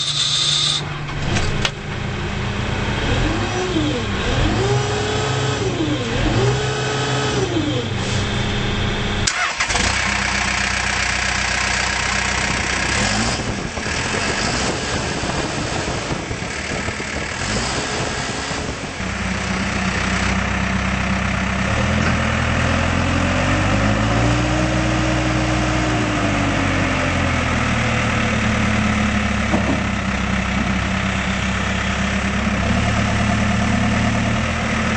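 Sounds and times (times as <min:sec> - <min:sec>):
diesel engine revving: 0:00.0 - 0:34.9.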